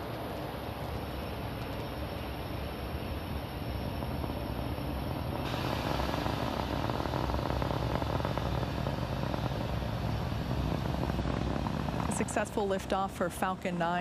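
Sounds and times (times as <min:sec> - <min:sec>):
rocket engines crackling rumble: 0:00.0 - 0:14.0.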